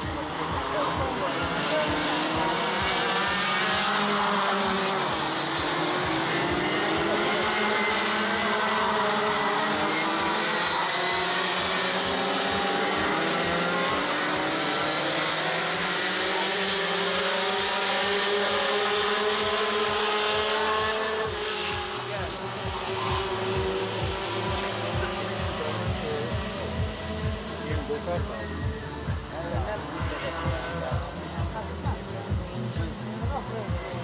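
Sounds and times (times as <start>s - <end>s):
racing kart engines: 0.0s - 34.0s.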